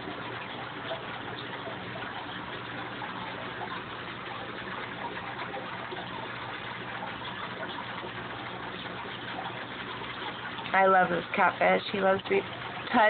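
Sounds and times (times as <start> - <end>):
aquarium water bubbling: 0.0 - 13.0.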